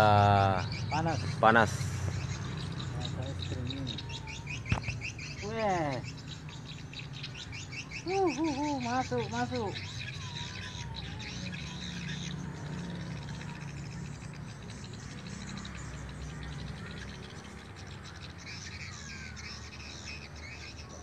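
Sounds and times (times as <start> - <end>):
birdsong from loudspeaker: 0.0 - 21.0.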